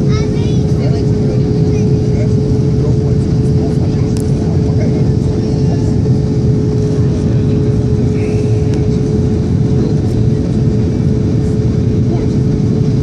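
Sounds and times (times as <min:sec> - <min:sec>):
constant steady hum: 0:00.0 - 0:13.0
jet engines and airflow rumble: 0:00.0 - 0:13.0.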